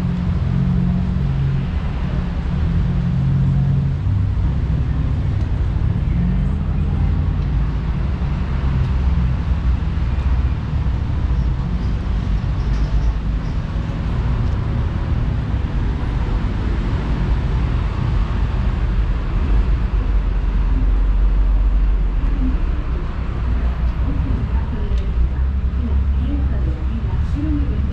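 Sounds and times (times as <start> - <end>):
street traffic rumble: 0.0 - 27.9.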